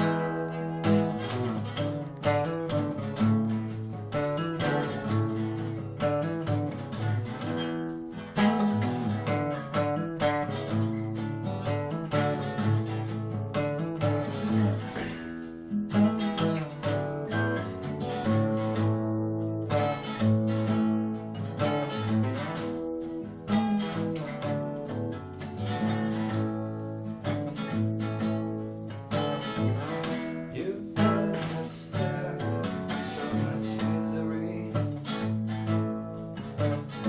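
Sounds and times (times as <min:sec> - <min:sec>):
acoustic guitar strumming chords: 0:00.0 - 0:37.0
second guitar playing: 0:00.0 - 0:37.0.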